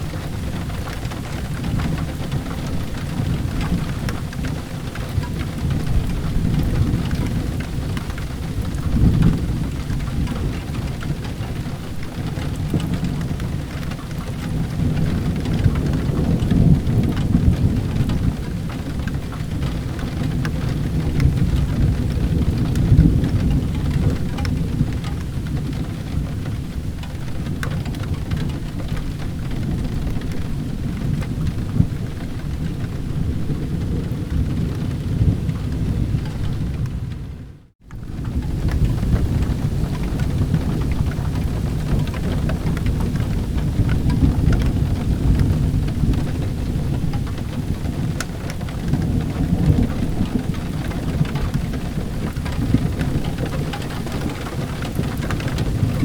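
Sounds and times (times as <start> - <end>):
low rumble of thunder: 0.0 - 56.0
steady rain: 0.0 - 56.0.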